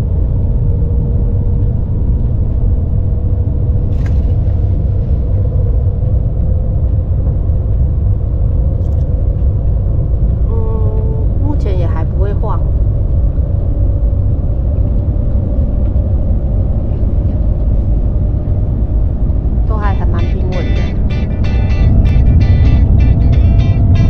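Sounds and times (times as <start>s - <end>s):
train cabin low rumble: 0.0s - 24.0s.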